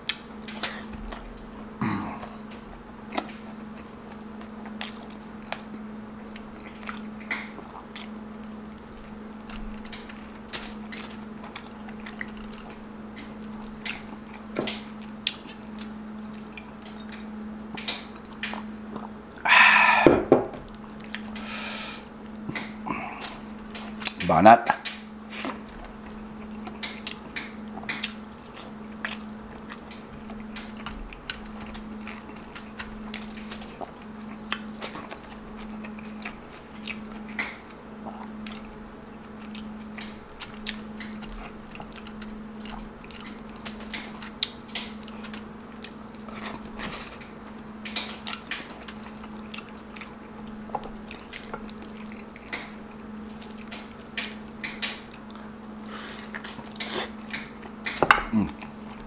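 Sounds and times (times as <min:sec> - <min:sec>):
man chewing food: 0:00.0 - 0:59.0
steady low hum: 0:00.0 - 0:59.0.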